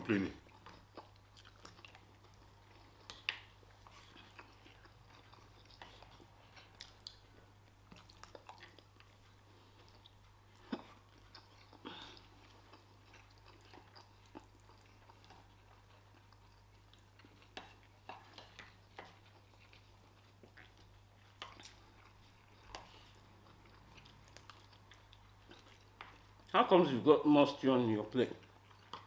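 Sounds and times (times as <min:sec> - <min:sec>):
chewing: 0:00.1 - 0:29.0.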